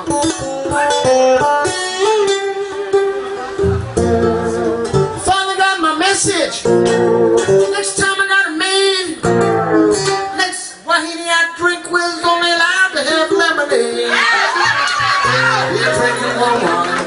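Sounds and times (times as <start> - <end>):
blues guitar: 0.0 - 17.0.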